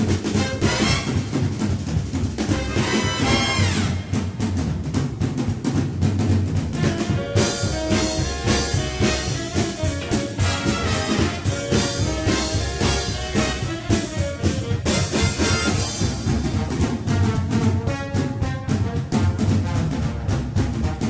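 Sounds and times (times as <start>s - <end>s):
upbeat band music with brass: 0.0s - 21.0s.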